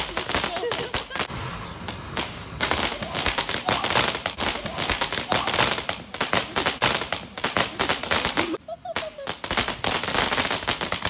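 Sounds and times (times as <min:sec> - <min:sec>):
firecrackers cracking and popping: 0:00.0 - 0:11.0.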